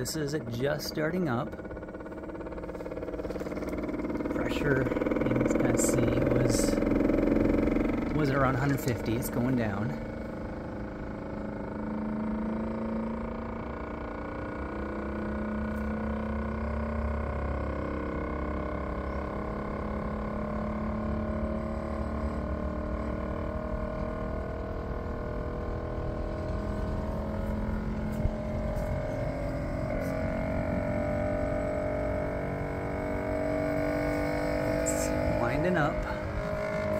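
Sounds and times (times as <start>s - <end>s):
air conditioner compressor humming: 0.0s - 21.3s, 24.7s - 36.9s.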